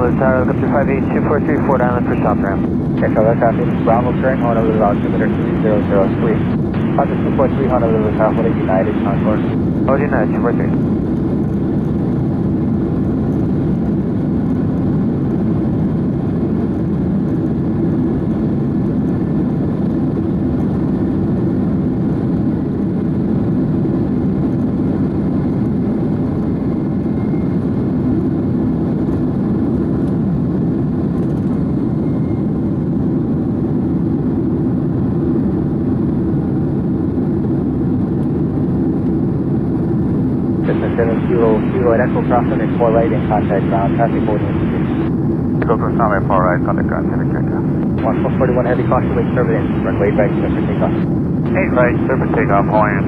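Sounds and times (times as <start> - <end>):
jet engines at takeoff thrust: 0.0 - 53.0.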